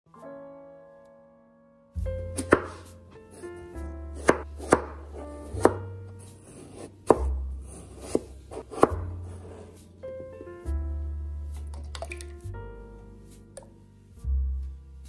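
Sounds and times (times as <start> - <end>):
soft background music: 0.1 - 15.0.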